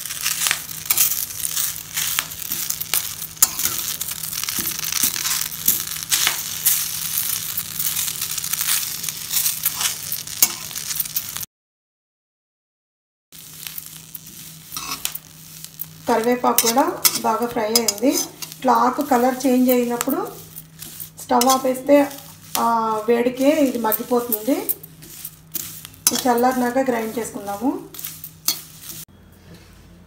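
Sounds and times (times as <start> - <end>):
metal spatula scraping pan: 0.1 - 11.4, 13.7 - 29.1.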